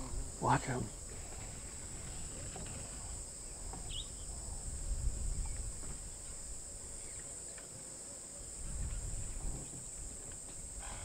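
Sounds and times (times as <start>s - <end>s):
insects buzzing high-pitched: 0.0s - 11.0s.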